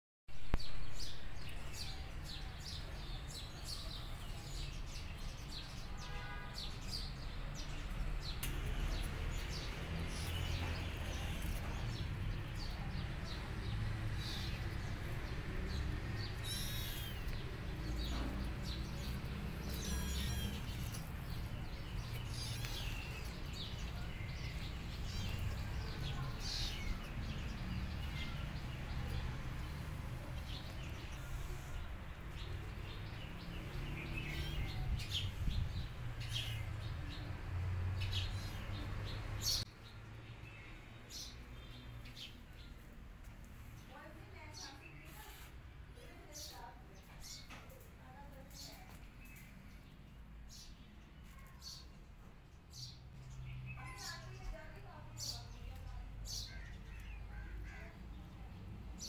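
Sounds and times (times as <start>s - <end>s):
small birds chirping: 0.4s - 59.0s.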